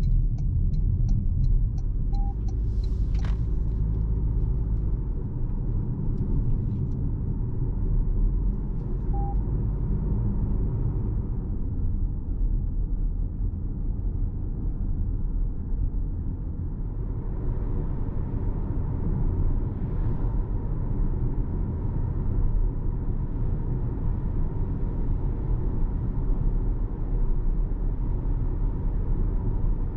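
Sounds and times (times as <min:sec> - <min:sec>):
low road rumble in car cabin: 0:00.0 - 0:29.9.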